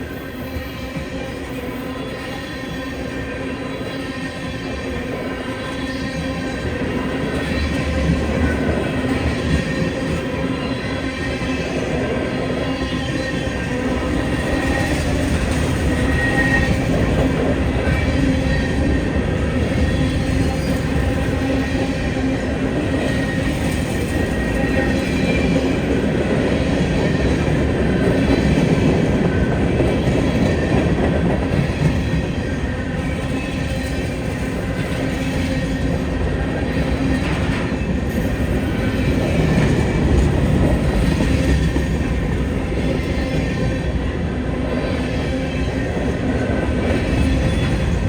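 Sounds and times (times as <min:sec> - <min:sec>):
freight train rumbling on rails: 0:00.0 - 0:48.0.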